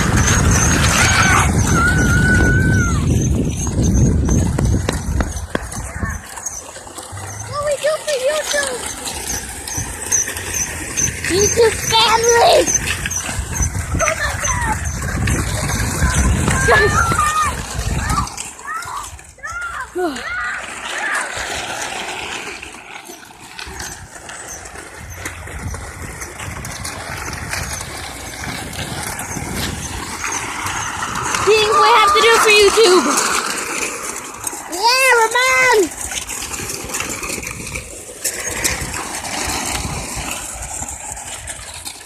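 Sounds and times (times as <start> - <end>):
wind buffeting microphone: 0.0 - 20.1, 23.6 - 42.0
small vehicle engine rumbling: 0.0 - 42.0.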